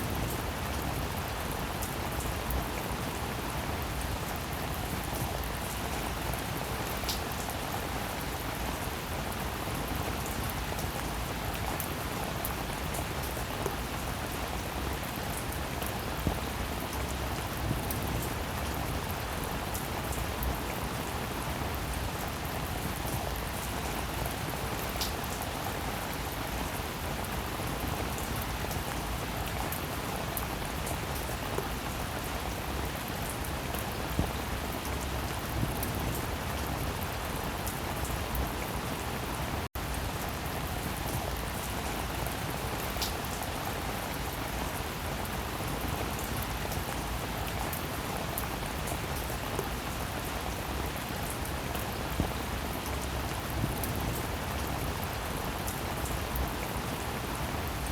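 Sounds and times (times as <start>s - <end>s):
steady rainfall: 0.0s - 57.9s.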